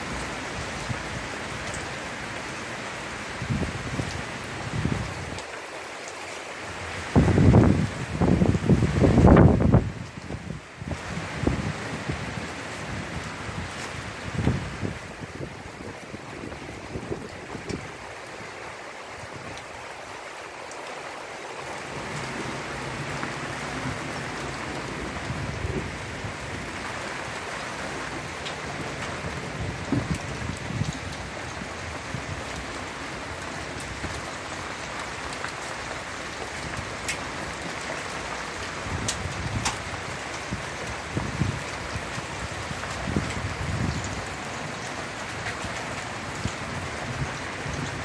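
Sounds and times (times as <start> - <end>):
heavy rain on roof: 0.0 - 48.0.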